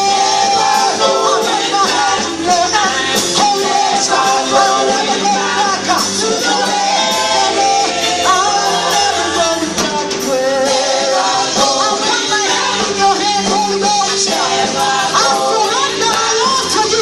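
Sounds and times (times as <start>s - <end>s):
band with guitar and drums: 0.0s - 17.0s
gospel choir singing: 0.0s - 17.0s.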